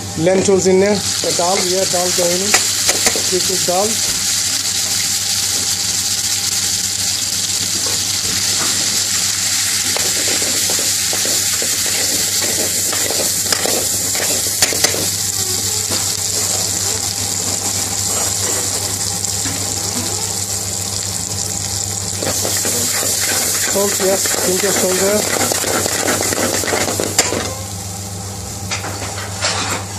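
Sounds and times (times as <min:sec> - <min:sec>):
lentils sizzling in oil: 0:00.5 - 0:28.0.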